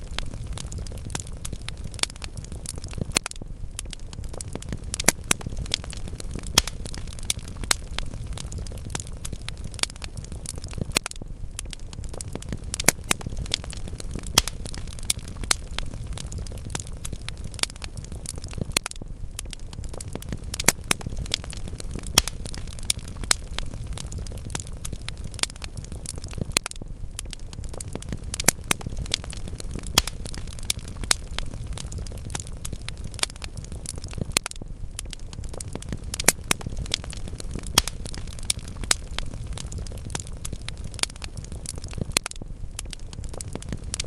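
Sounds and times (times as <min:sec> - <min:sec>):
logs burning in a fireplace: 0:00.0 - 0:44.0.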